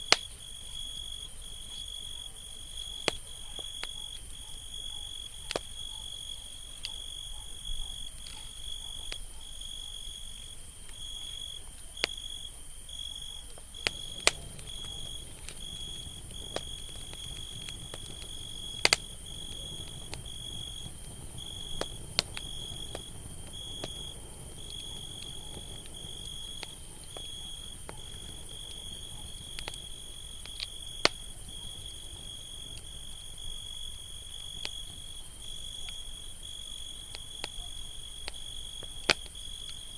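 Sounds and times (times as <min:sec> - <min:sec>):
campfire crackling and popping: 0:00.0 - 0:01.7, 0:02.6 - 0:04.4, 0:05.0 - 0:05.9, 0:10.3 - 0:36.1, 0:37.0 - 0:39.9
crickets chirping: 0:00.0 - 0:39.9.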